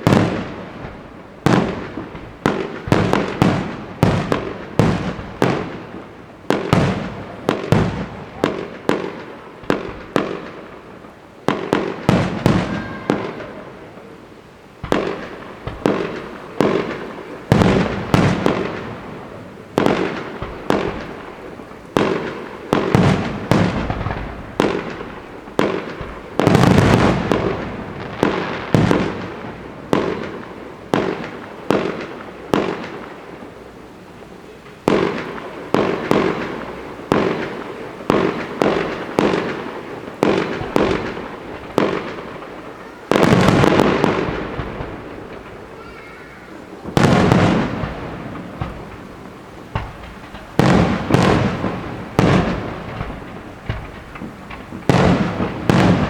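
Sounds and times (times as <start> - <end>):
fireworks bangs echoing: 0.0 - 56.0.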